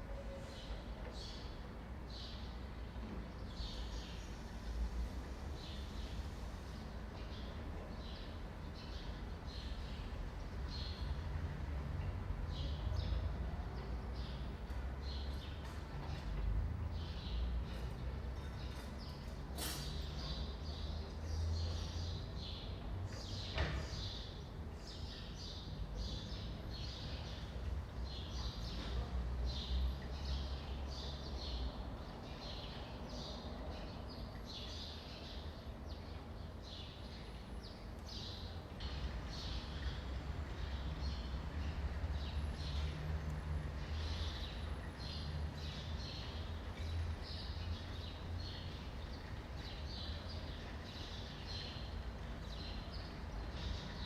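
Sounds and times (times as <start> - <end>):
distant city traffic rumble: 0.0 - 54.0.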